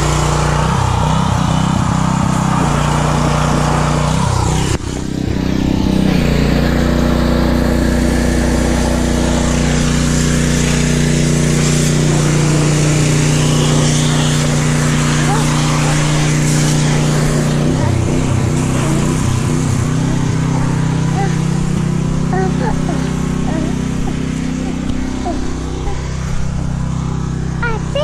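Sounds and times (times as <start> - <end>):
pressure washer engine running: 0.0 - 28.0.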